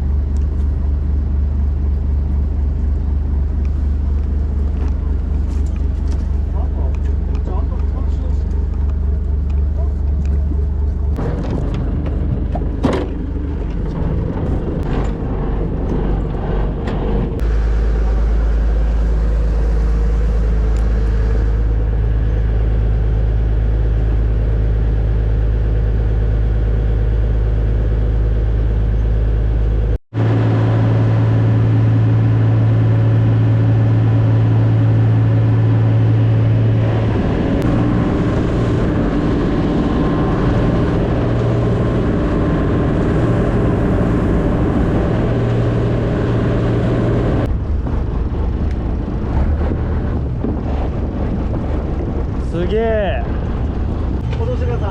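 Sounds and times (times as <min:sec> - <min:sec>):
boat engine drone: 0:00.0 - 0:54.9.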